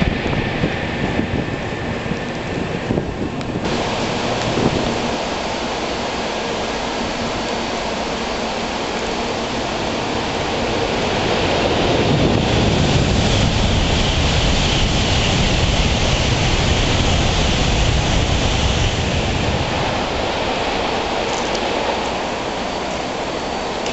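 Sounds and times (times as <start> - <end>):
heavy rain hiss: 0.0 - 23.9
train passing at speed: 0.0 - 23.9.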